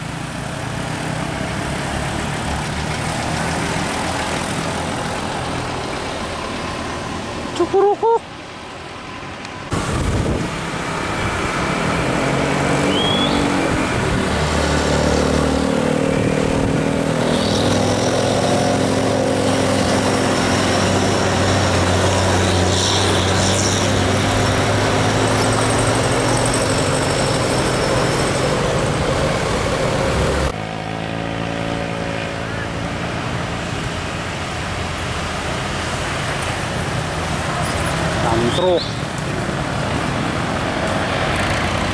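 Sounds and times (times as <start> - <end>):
diesel truck engine: 0.0 - 41.9
motorcycles: 0.0 - 41.9
road traffic: 0.0 - 41.9.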